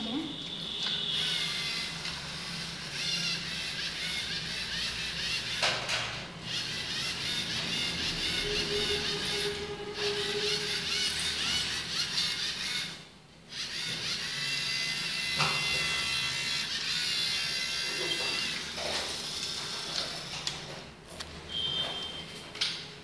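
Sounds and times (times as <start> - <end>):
robot motors whining: 1.2 - 20.0.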